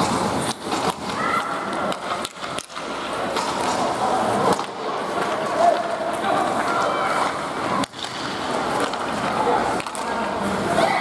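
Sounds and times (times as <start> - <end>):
skates scraping on ice: 0.0 - 11.0.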